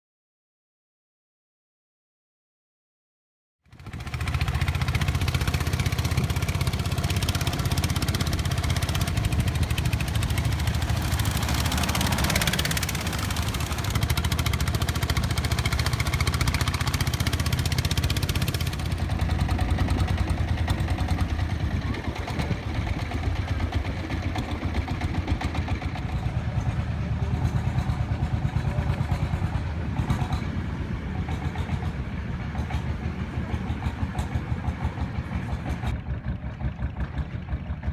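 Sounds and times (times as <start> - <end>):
wind: 3.6 - 37.9
boat engine chugging: 3.7 - 37.9.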